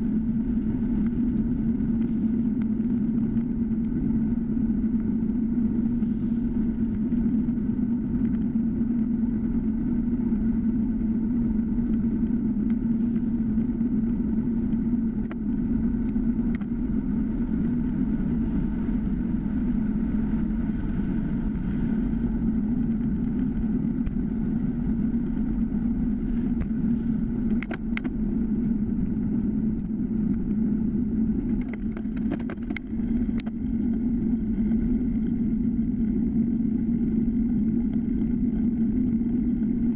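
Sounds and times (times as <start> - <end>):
bicycle tyres on asphalt: 0.0 - 39.9
wind rumble: 0.0 - 39.9.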